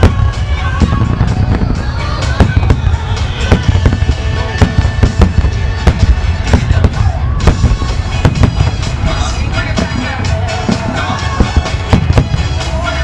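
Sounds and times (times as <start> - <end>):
fireworks bangs: 0.0 - 13.0
low rumble: 0.0 - 13.0
music playing: 0.0 - 13.0.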